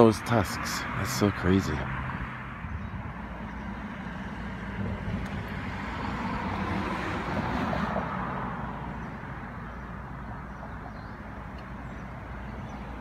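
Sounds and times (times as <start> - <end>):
low traffic rumble: 0.0 - 13.0
vehicle passing: 0.7 - 13.0.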